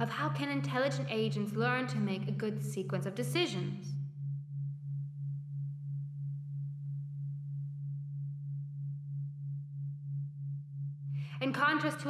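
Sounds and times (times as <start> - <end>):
low pulsing electronic drone: 0.0 - 12.0.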